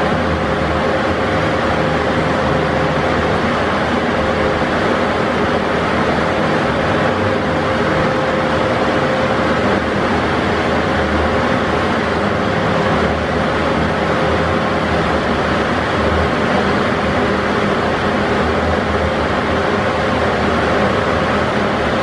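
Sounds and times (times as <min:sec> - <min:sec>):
constant whine: 0:00.0 - 0:22.0
trolleybus drone: 0:00.0 - 0:22.0.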